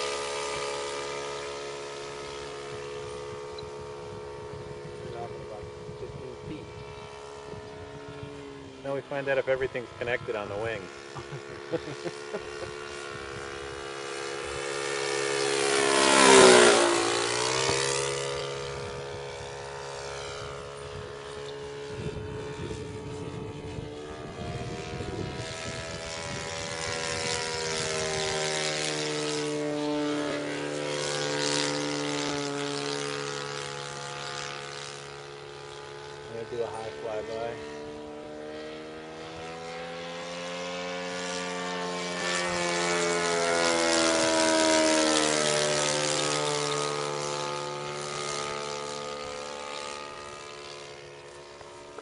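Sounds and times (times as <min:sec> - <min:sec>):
model airplane engine droning: 0:00.0 - 0:52.0.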